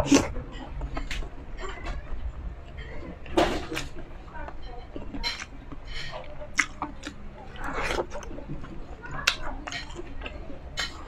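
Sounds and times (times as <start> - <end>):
chewing with wet mouth sounds: 0.0 - 11.0.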